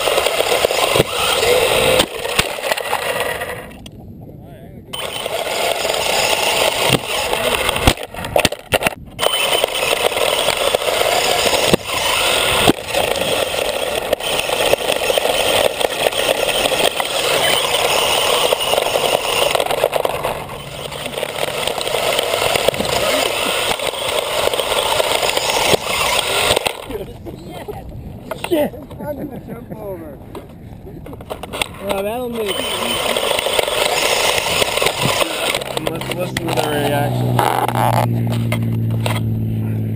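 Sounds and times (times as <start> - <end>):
rc car tyres crunching wood chips: 0.0 - 3.8, 5.0 - 27.1, 31.2 - 39.4
rc car motor: 0.0 - 3.9, 4.9 - 28.6, 31.1 - 39.8.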